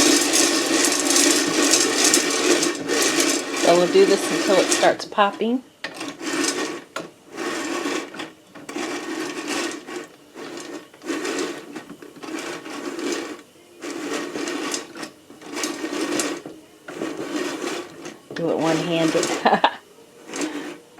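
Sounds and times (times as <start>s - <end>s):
popcorn popper stirring kernels: 0.0s - 20.9s.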